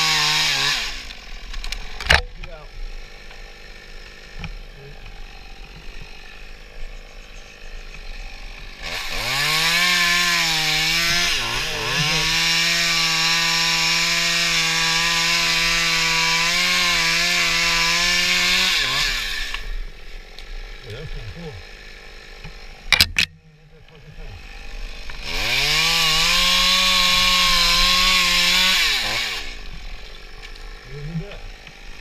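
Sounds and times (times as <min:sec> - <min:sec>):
chainsaw cutting tree limb: 0:00.0 - 0:32.0.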